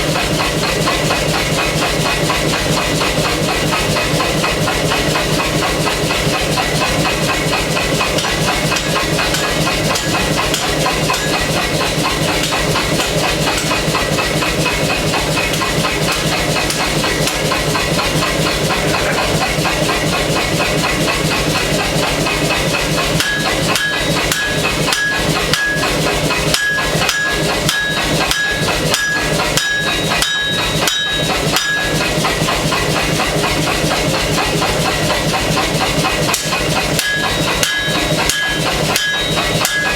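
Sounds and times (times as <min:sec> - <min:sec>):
air hammer pounding steel: 0:00.0 - 0:39.9.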